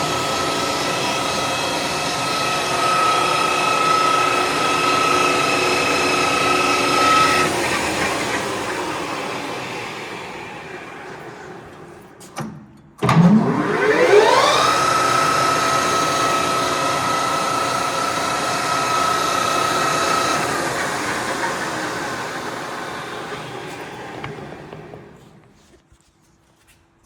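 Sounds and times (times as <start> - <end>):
lathe spindle whining: 0.0 - 12.2, 13.0 - 25.4.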